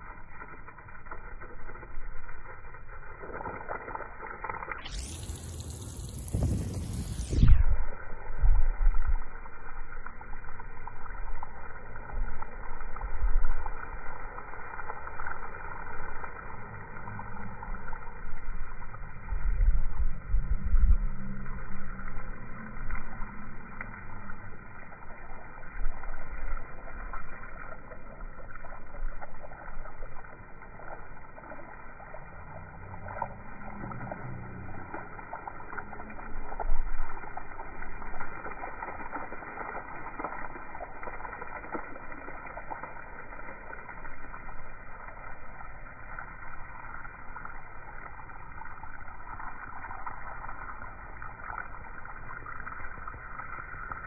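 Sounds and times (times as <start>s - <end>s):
hose water spraying on wall: 0.0s - 54.0s.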